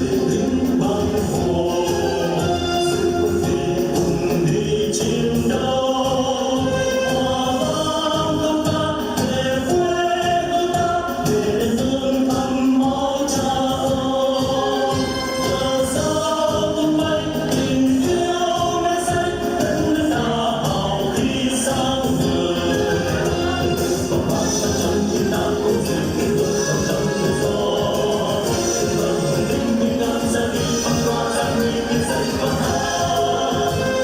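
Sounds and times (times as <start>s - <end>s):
group of voices singing: 0.0s - 34.0s
instrumental accompaniment: 0.0s - 34.0s.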